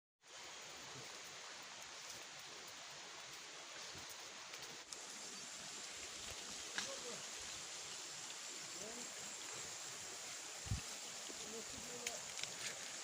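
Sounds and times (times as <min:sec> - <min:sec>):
faint outdoor hiss: 0:00.2 - 0:13.0.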